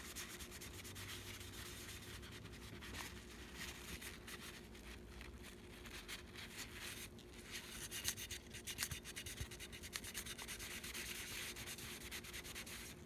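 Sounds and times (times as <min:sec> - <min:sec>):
paper towel wiping metal: 0:00.0 - 0:13.0.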